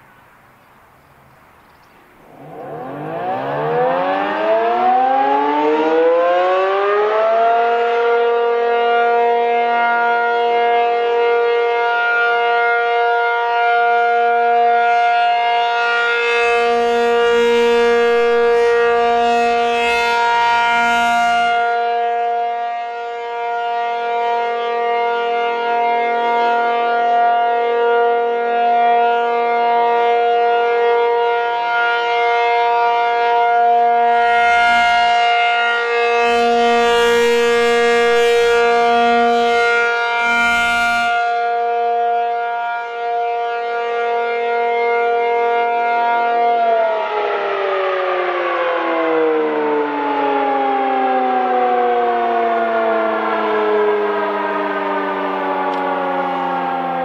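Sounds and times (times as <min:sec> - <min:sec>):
rotating warning siren: 0:01.7 - 0:57.0.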